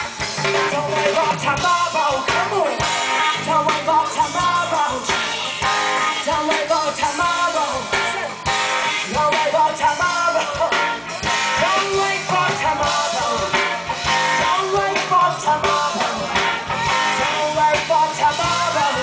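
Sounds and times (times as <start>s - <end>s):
live rock band: 0.0s - 19.0s
person singing: 0.4s - 19.0s.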